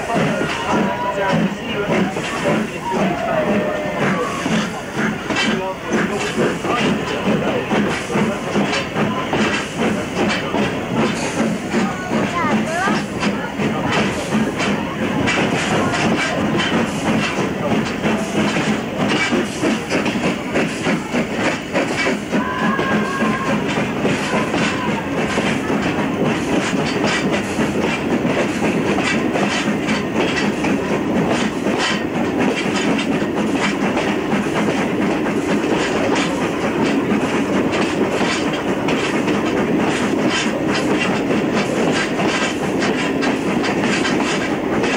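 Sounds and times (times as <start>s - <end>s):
wheels clicking over rail joints: 0.1s - 44.9s.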